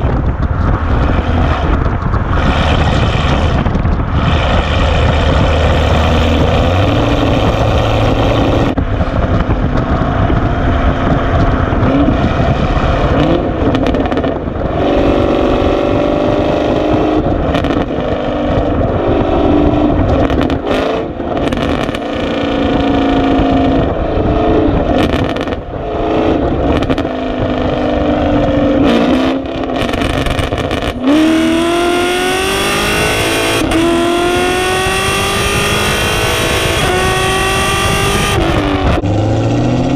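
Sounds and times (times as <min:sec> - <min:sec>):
car engine exhaust revving: 0:00.0 - 0:39.9.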